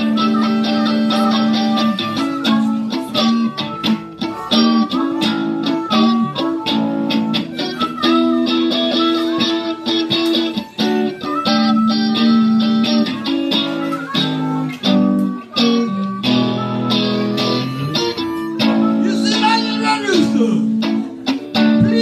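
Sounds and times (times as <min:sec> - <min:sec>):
amplified harmonica long notes: 0:00.0 - 0:22.0
electric guitar through an amp: 0:00.0 - 0:22.0.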